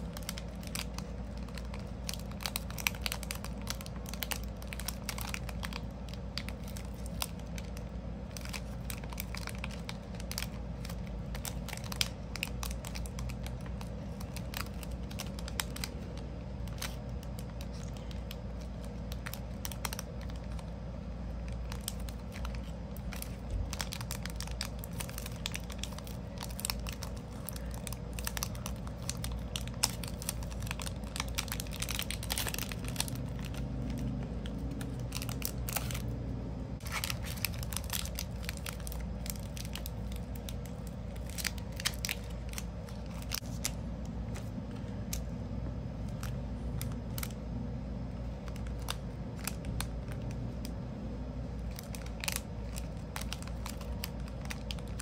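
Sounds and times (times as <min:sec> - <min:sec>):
plastic bag crinkling: 0:00.0 - 0:36.2, 0:36.8 - 0:47.5, 0:48.1 - 0:50.8, 0:51.5 - 0:55.0
steady low hum: 0:00.0 - 0:55.0.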